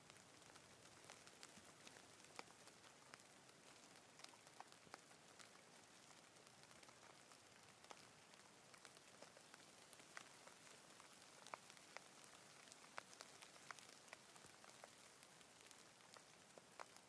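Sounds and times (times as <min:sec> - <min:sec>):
faint rain hiss: 0:00.0 - 0:17.0
raindrop ticks: 0:00.0 - 0:17.0.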